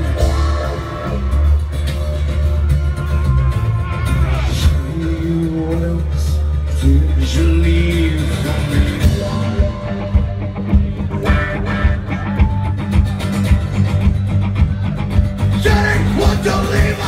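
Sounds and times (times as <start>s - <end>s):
drum kit beat: 0.0s - 5.4s, 8.7s - 17.0s
electric guitars: 0.0s - 17.0s.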